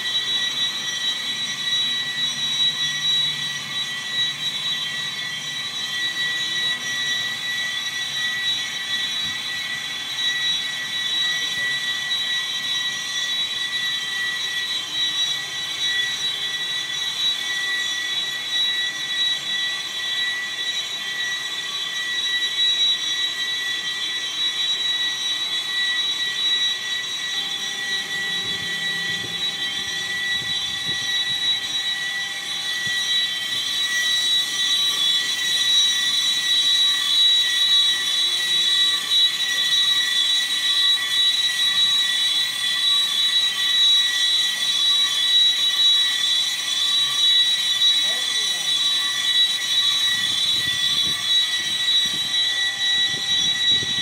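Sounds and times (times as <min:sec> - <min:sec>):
boring machine running: 0:00.0 - 0:54.0
steady high whine: 0:00.0 - 0:54.0.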